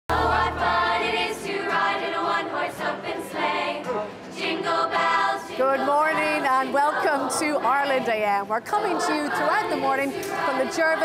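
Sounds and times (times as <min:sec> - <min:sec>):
girls' choir singing a carol: 0:00.1 - 0:11.0.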